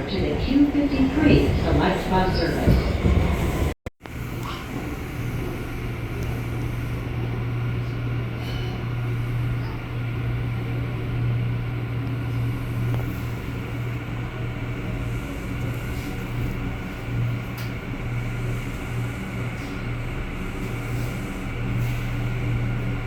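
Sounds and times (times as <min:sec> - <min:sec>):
subway car low hum: 0:00.0 - 0:23.0.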